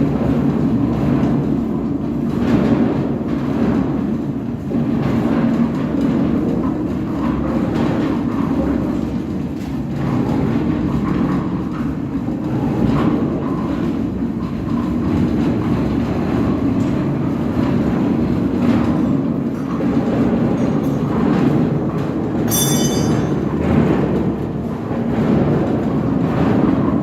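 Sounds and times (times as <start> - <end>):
concrete mixer truck rumbling: 0.0 - 27.0.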